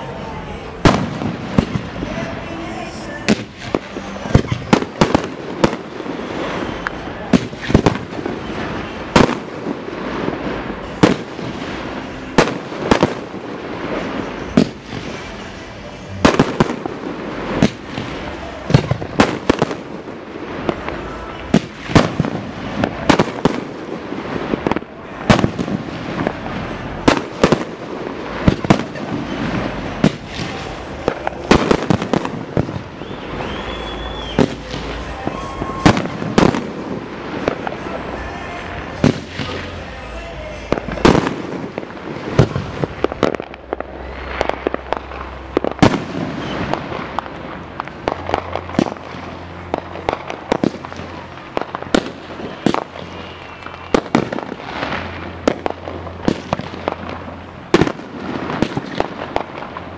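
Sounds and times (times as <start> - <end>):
fireworks bursting with bangs: 0.0 - 59.9
fireworks crackling: 0.0 - 59.9.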